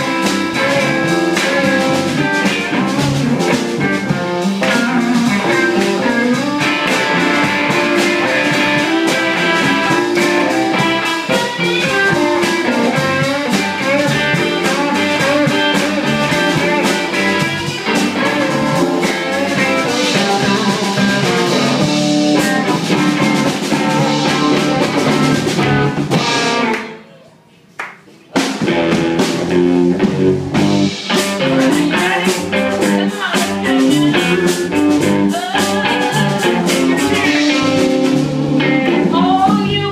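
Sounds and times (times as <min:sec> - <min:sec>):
drum kit: 0:00.0 - 0:27.0, 0:28.0 - 0:39.9
electric guitar: 0:00.0 - 0:27.0, 0:28.4 - 0:39.9.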